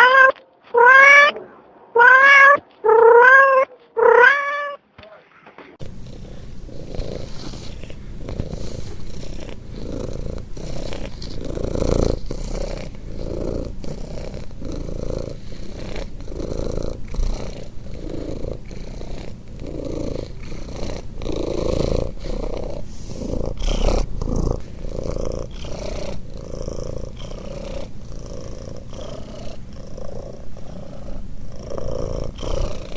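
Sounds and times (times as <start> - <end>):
cat snoring: 5.8 - 32.9.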